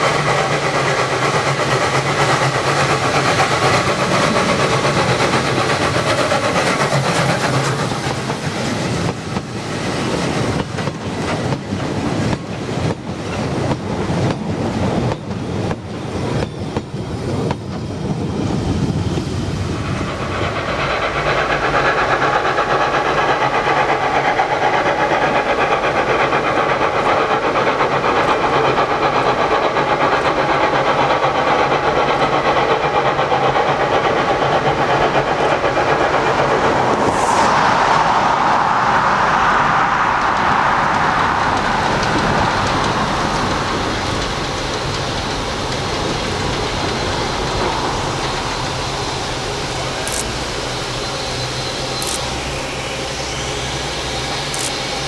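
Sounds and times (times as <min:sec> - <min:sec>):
steam locomotive running: 0:00.0 - 0:55.0
steam locomotive rush: 0:00.0 - 0:55.0.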